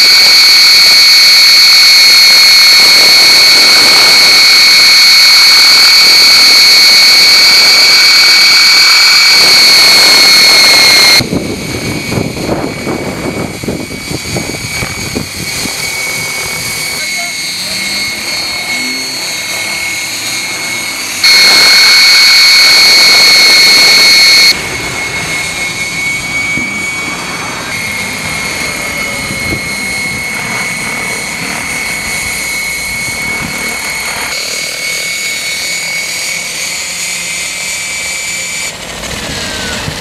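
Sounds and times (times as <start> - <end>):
model helicopter high whine: 0.0 - 40.0.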